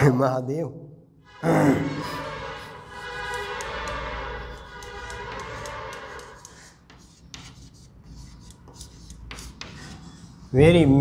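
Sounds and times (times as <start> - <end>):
chalk scratching on blackboard: 2.0 - 11.0.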